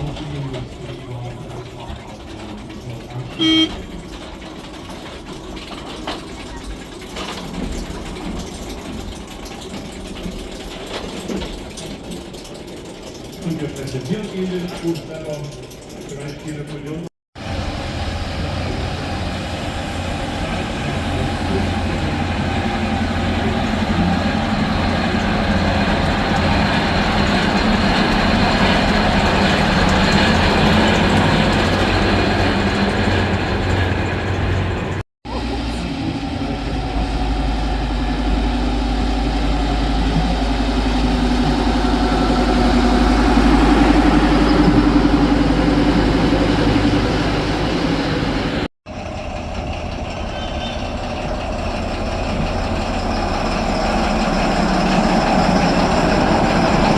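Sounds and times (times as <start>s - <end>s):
rail vehicle engine rumble: 0.0s - 56.9s.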